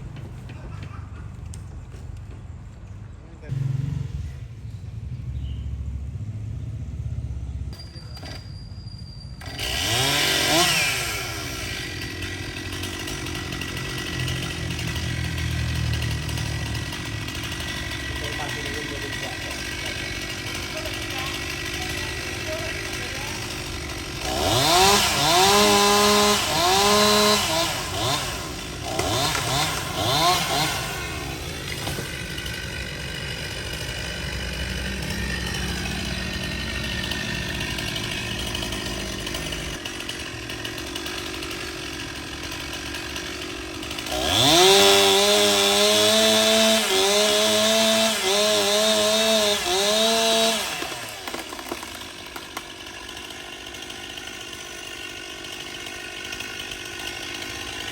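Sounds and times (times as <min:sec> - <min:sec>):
chainsaw revving: 0:03.4 - 0:04.4, 0:09.4 - 0:57.9.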